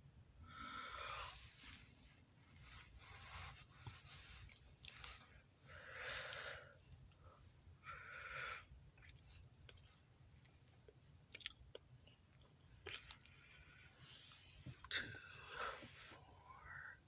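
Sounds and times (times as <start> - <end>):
faint low rumble: 0.0 - 17.0
soft breathing: 0.4 - 10.1, 12.8 - 17.0.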